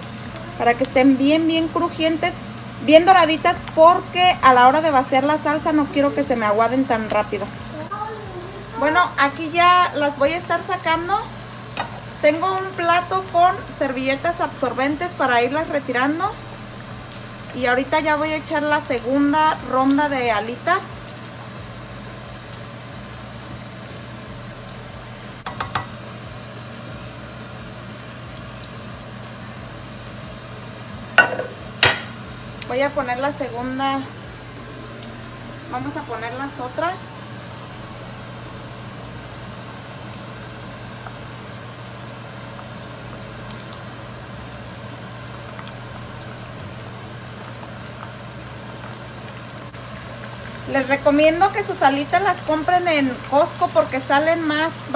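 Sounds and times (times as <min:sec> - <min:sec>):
oil bubbling in a pot: 0:00.0 - 0:54.9
range hood fan humming: 0:00.0 - 0:54.9.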